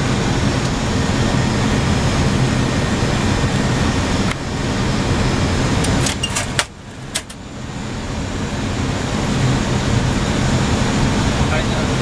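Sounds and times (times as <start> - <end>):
aircraft cockpit hiss and hum: 0.0 - 12.0.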